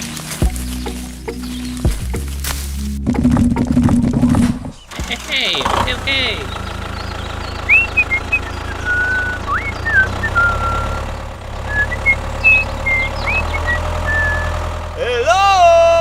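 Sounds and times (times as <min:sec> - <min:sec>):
birds chirping: 0:00.0 - 0:15.8
tractor engine humming: 0:00.0 - 0:16.0.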